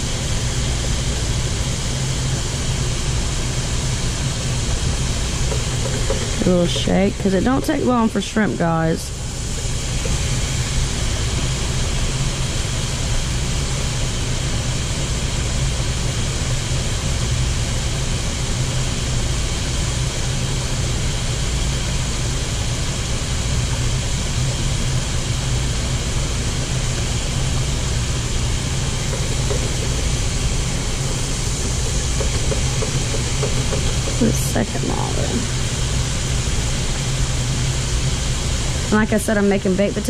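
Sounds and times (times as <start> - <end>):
deep fryer low hum: 0.0 - 40.0
shrimp sizzling in deep fryer: 0.0 - 40.0.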